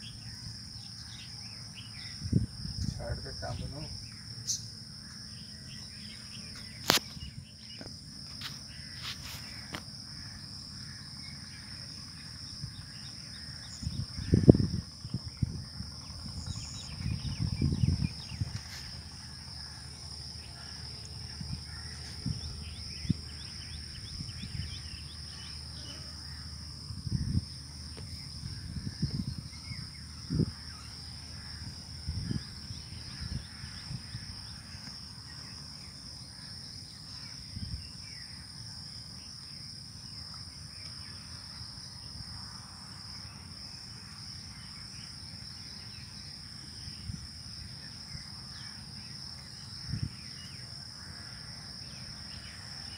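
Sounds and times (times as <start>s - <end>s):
insect chorus shrill drone: 0.0s - 52.9s.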